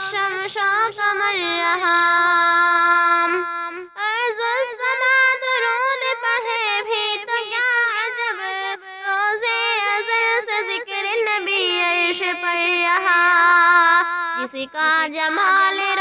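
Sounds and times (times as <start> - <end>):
girl singing unaccompanied: 0.0 - 16.0.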